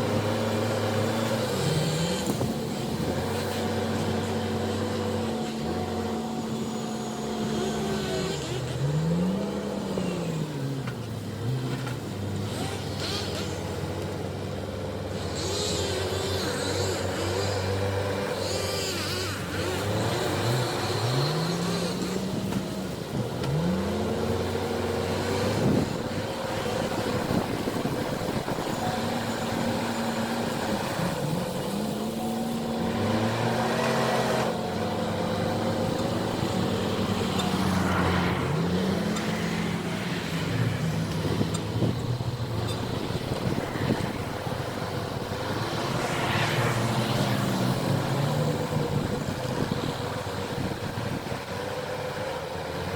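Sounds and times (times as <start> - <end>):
diesel engine under hydraulic load: 0.0 - 52.9.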